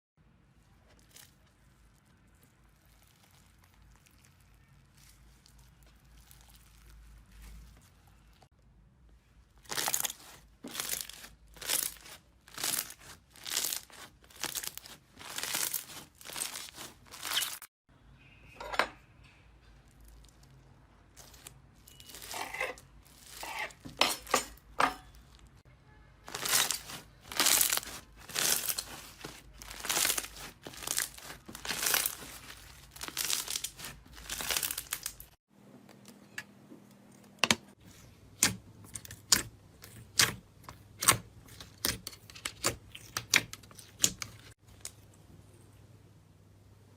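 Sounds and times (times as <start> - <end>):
crunching and crinkling by hand: 0.2 - 17.7, 19.6 - 36.3, 37.2 - 45.2.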